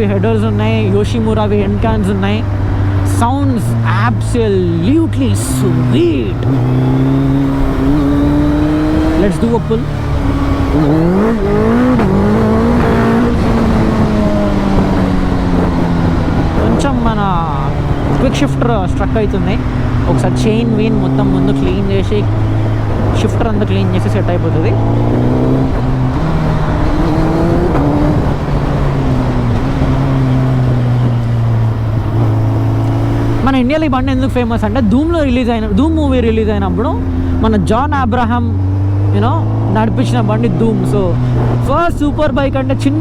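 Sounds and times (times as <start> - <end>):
motorcycle engine revving hard: 0.0 - 43.0.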